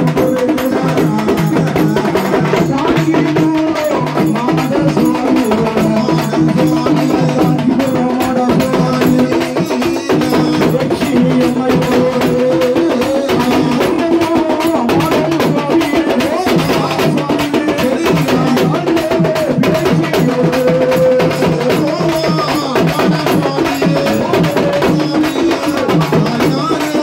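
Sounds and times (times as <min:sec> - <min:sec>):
clacking percussion: 0:00.0 - 0:27.0
hand drums beating: 0:00.0 - 0:27.0.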